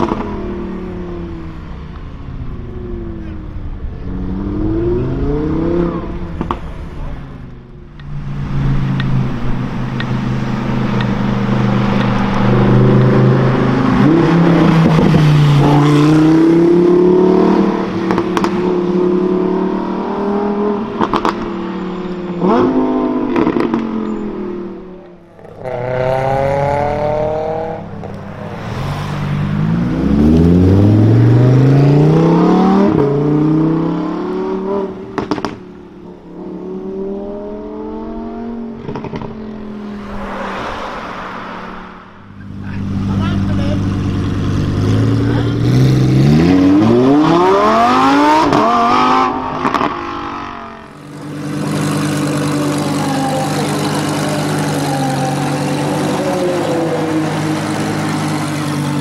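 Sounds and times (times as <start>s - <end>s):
sports car engine accelerating: 0.0s - 59.0s.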